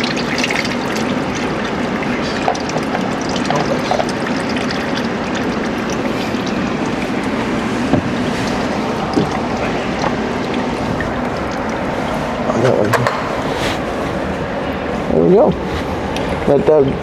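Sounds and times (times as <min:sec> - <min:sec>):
oil pouring and trickling: 0:00.0 - 0:17.0.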